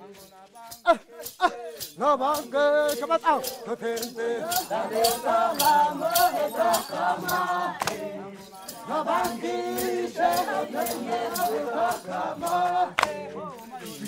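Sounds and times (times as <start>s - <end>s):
group singing and chanting: 0.0s - 14.0s
sharp clicking beat: 0.6s - 13.3s.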